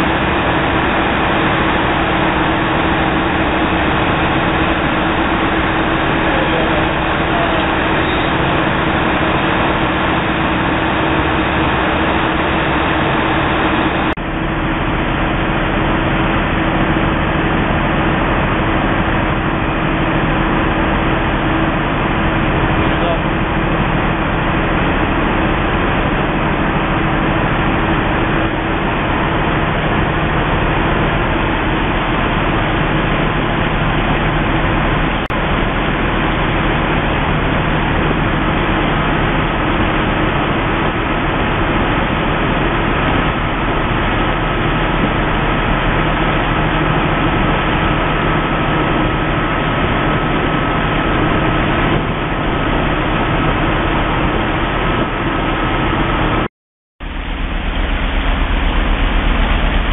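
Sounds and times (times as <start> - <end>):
thin high whine: 0.0 - 55.8
boat engine running: 0.0 - 59.9
rushing water noise: 0.0 - 59.9.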